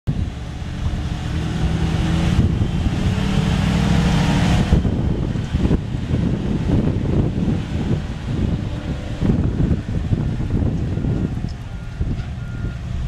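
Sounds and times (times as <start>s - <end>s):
truck engine driving past: 0.1s - 13.0s.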